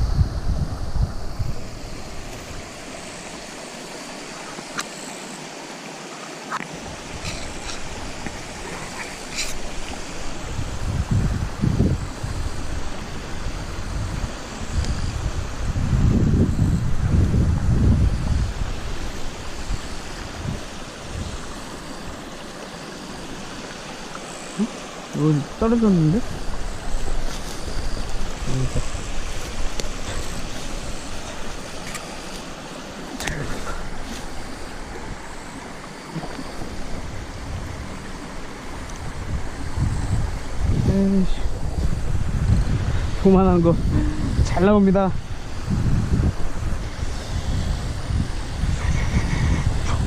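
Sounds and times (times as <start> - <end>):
wind buffeting microphone: 0.0 - 4.8, 6.7 - 50.0
water rushing into stream: 0.0 - 50.0.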